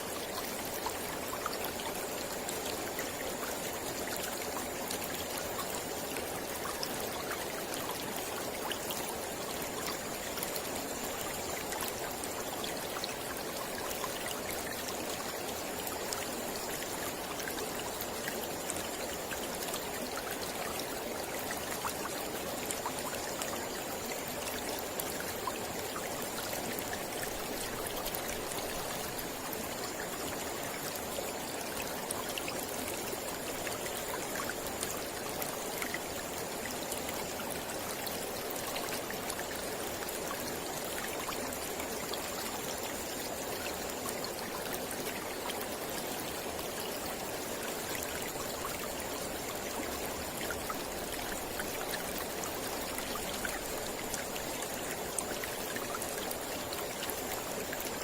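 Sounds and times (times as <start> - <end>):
river flowing over rocks: 0.1 - 58.0.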